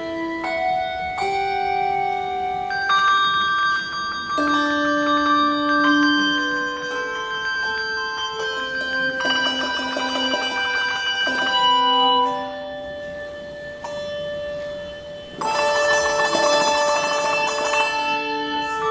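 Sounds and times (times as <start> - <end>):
handbell choir playing: 0.0 - 18.9.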